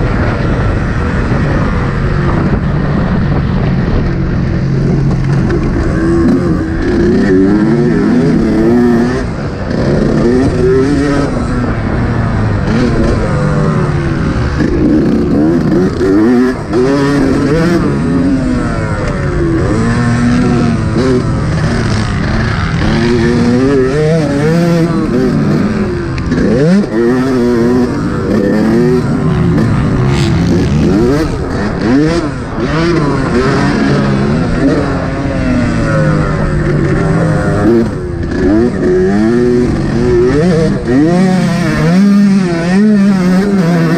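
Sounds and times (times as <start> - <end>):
motocross engine revving: 0.0 - 43.9
wind and riding noise: 0.0 - 43.9.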